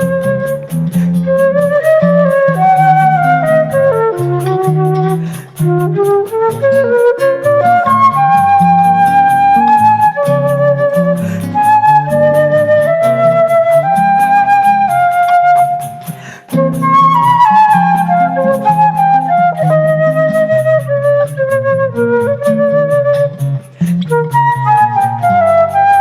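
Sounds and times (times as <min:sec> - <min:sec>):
flute melody: 0:00.0 - 0:26.0.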